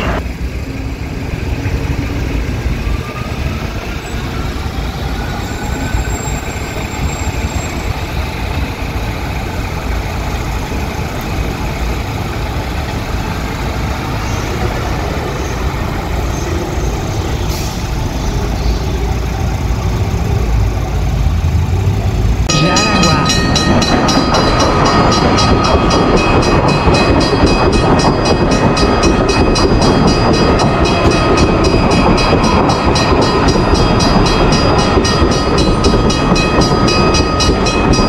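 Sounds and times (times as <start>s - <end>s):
electric train rumbling: 0.0s - 38.0s.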